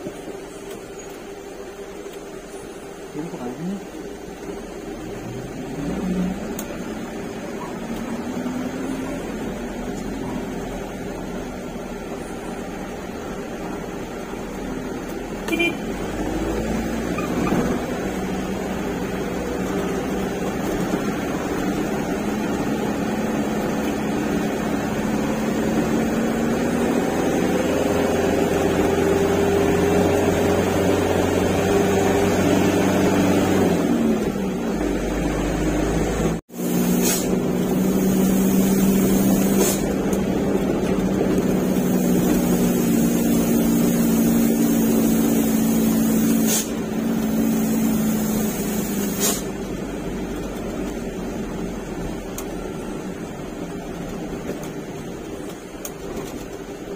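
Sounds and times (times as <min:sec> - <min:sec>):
truck engine under load: 0:00.0 - 0:56.9.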